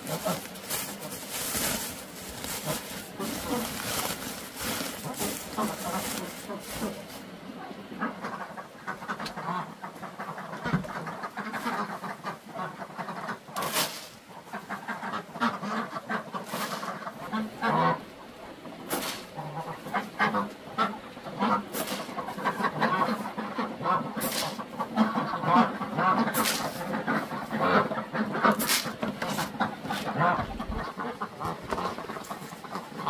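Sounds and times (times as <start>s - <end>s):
harsh quacking calls: 0.0s - 7.2s, 7.9s - 18.1s, 18.9s - 33.0s.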